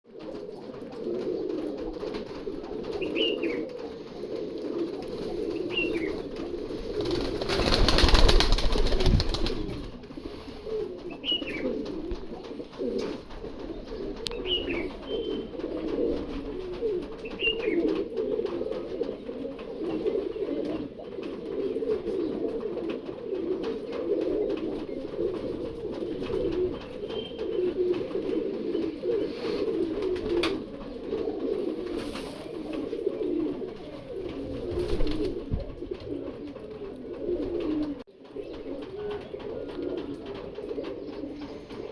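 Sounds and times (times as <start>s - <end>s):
pigeons cooing: 0.1s - 41.9s.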